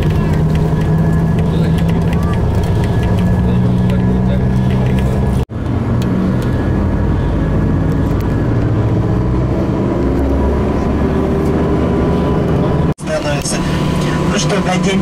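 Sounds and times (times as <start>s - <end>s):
bus engine drone and road noise: 0.0s - 15.0s.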